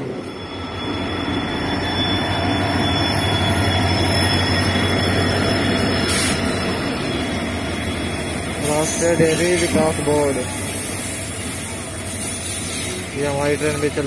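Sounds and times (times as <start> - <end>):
locomotive humming: 0.0 - 14.0
train wheels rumbling on rails: 0.0 - 14.0.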